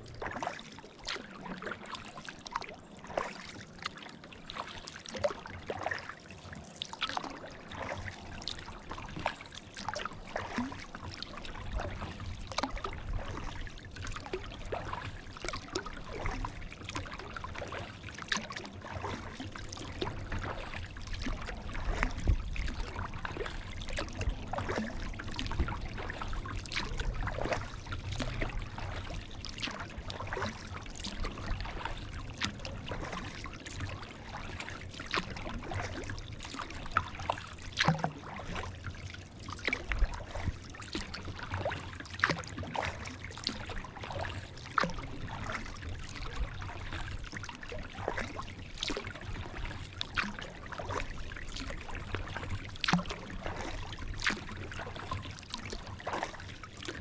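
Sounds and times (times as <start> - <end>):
paddle splashing water: 0.0 - 57.0.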